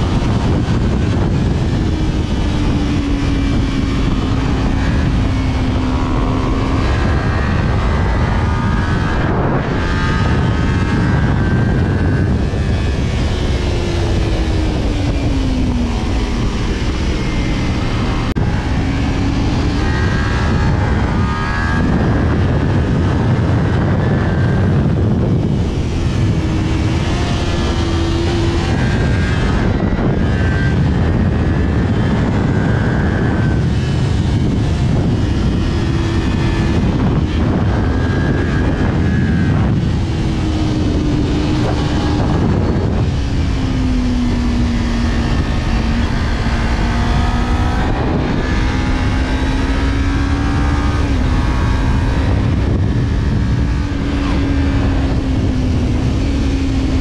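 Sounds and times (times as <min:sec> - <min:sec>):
heavy wind noise: 0:00.0 - 0:57.0
motorcycle engine revving: 0:00.0 - 0:57.0.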